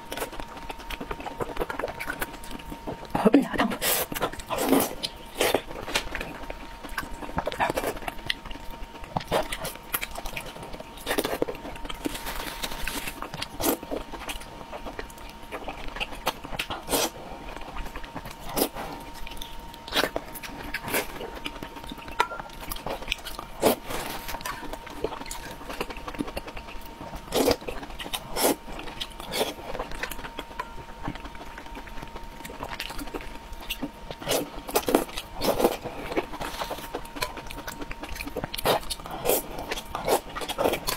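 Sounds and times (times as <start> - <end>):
wet chewing and smacking: 0.0 - 3.2, 3.9 - 40.9.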